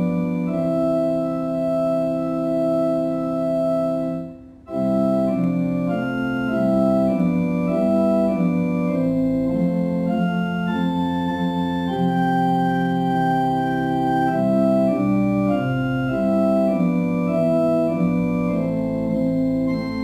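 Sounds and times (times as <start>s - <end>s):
organ playing a hymn: 0.0s - 20.0s.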